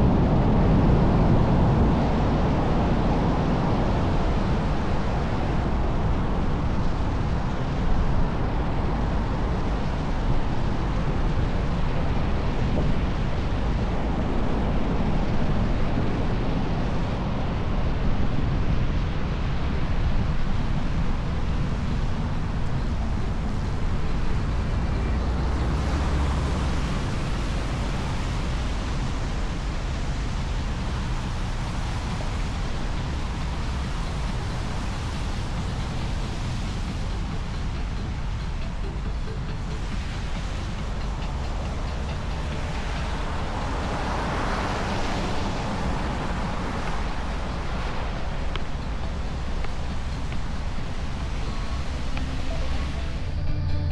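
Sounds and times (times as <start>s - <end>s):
wind rush on microphone: 0.0s - 53.9s.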